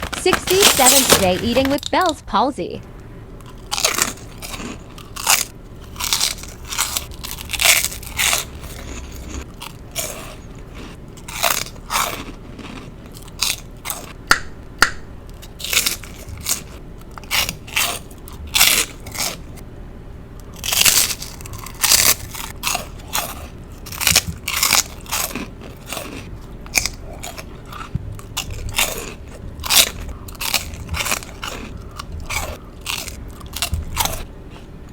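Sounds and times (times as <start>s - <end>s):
crunchy chewing: 3.3s - 19.6s, 20.3s - 34.9s.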